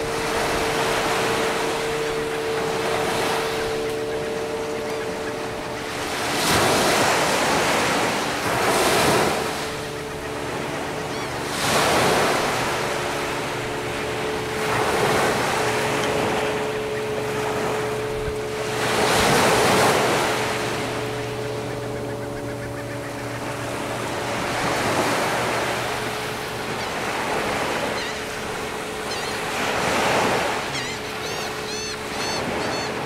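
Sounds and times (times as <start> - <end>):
surf waves breaking on beach: 0.0 - 33.0.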